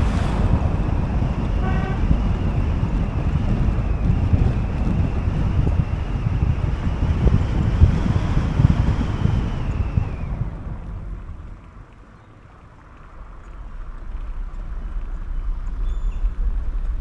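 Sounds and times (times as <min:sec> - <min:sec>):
wind on microphone: 0:00.0 - 0:12.0, 0:13.0 - 0:17.0
vehicle noise: 0:00.0 - 0:17.0.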